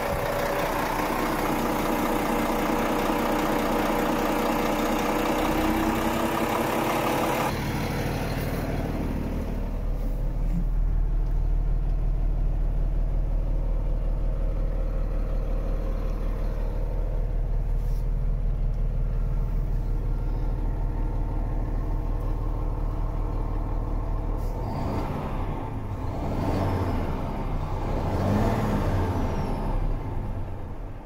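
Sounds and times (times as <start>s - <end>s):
truck diesel engine idling and revving: 0.0s - 31.0s.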